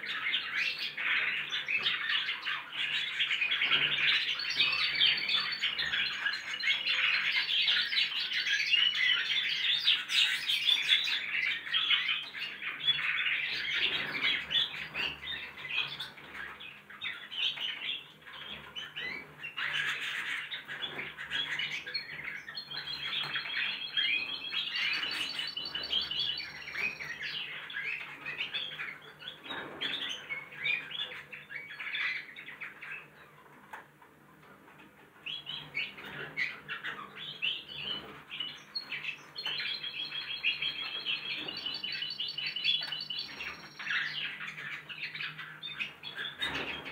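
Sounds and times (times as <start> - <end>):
birds twittering: 0.0 - 46.9.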